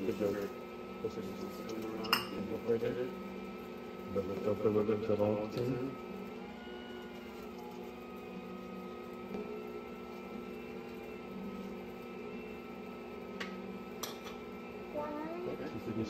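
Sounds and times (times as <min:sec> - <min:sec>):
stand mixer motor hum: 0:00.0 - 0:16.0.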